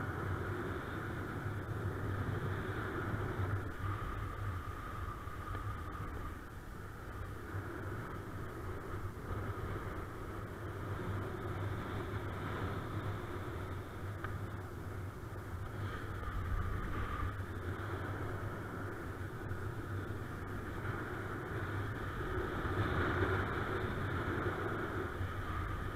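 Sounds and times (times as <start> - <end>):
faint steady high tone: 0.0 - 25.9
wind rushing over microphone: 0.0 - 25.9.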